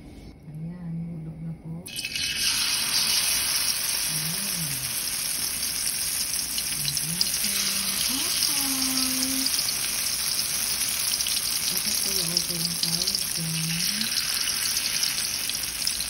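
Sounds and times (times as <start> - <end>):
batter sizzling in hot oil: 1.9 - 16.0.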